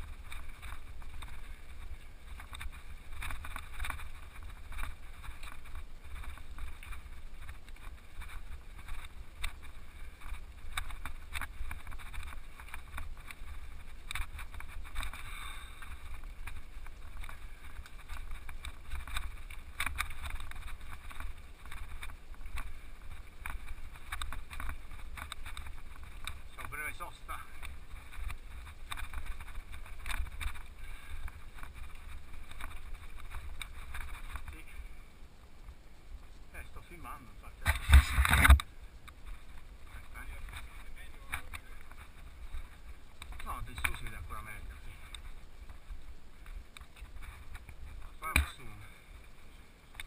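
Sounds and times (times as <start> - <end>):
tyres crunching over stones: 0.0 - 35.0, 35.6 - 50.0
wind rumble on microphone: 0.0 - 50.0.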